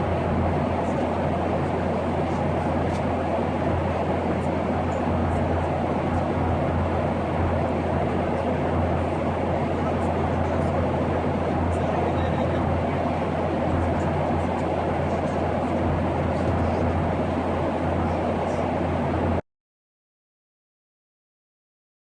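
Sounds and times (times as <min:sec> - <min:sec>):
airliner cabin engine drone: 0:00.0 - 0:19.4.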